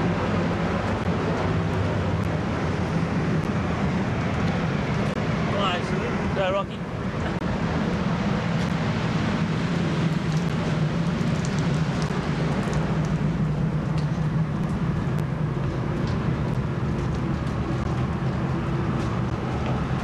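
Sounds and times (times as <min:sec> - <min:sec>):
ship machinery drone: 0:00.0 - 0:20.0.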